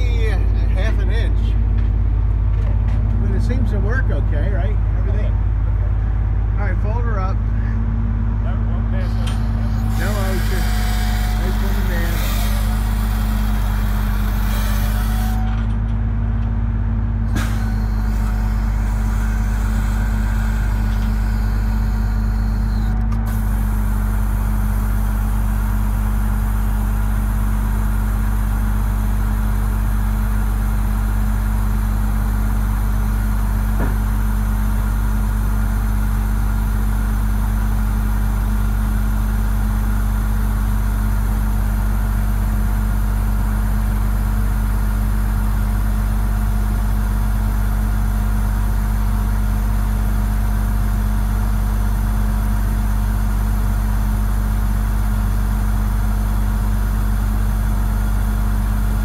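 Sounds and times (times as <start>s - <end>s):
truck engine running steadily: 0.0s - 59.0s.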